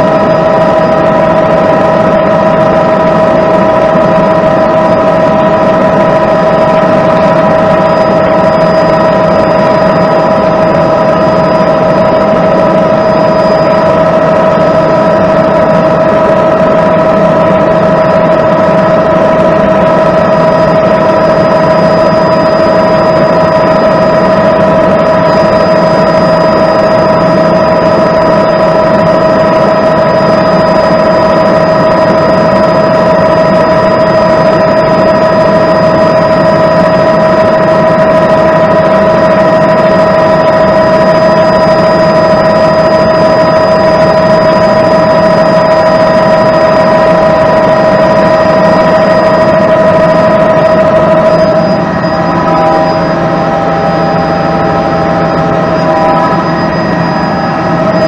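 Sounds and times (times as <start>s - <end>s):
helicopter engine and rotor noise: 0.0s - 58.0s
high turbine whine: 0.0s - 58.0s.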